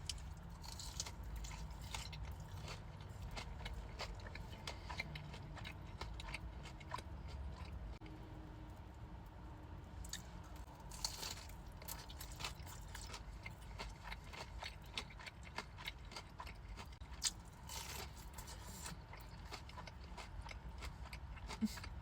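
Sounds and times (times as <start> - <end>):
crunching fried chicken: 0.0 - 8.0, 10.0 - 22.0.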